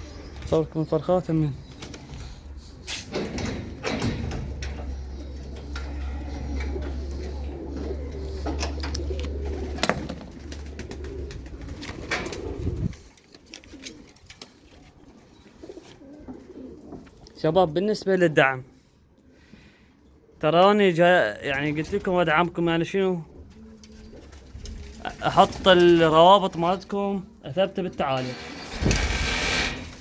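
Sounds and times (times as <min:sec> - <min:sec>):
pigeons cooing: 0:00.0 - 0:17.4, 0:21.3 - 0:30.0.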